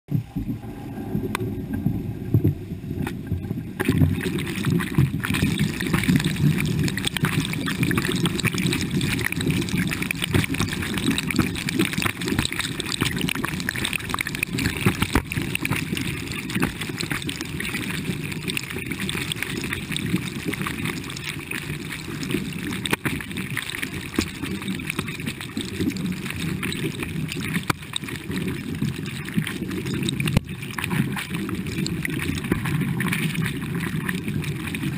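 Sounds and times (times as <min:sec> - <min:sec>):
river water sloshing and gurgling: 0:00.2 - 0:34.9.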